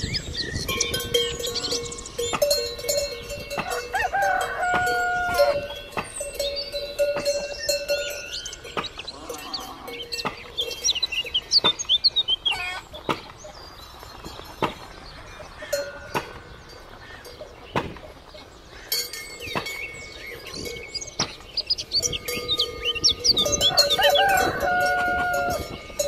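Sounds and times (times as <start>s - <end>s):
cowbells clanking: 0.0s - 12.7s, 13.5s - 26.0s
birds chirping: 0.0s - 26.0s.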